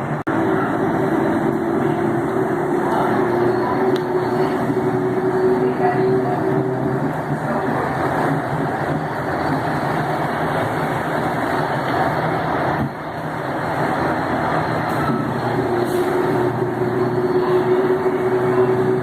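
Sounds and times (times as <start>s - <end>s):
train running rumble: 0.0s - 19.0s.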